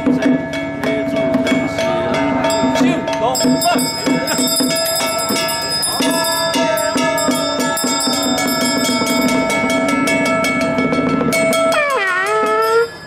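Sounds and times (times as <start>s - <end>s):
bells ringing: 0.0s - 13.0s
rhythmic percussion: 0.0s - 13.0s.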